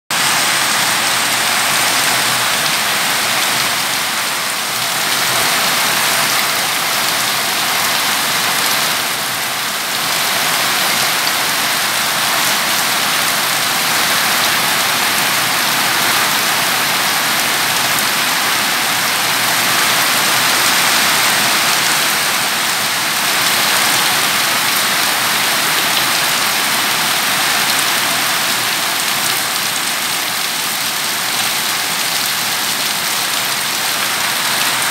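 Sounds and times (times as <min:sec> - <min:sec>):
heavy rain on leaves: 0:00.1 - 0:34.9.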